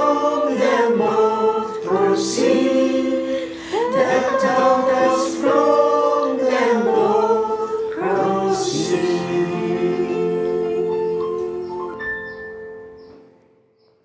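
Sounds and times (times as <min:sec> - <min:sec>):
choir singing in harmony: 0:00.0 - 0:12.4.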